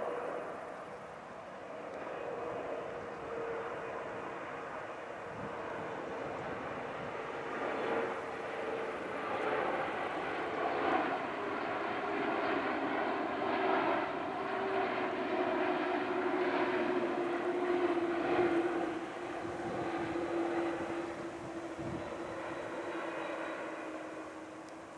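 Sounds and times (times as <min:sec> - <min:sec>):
jet airliner passing overhead: 0:00.0 - 0:24.9.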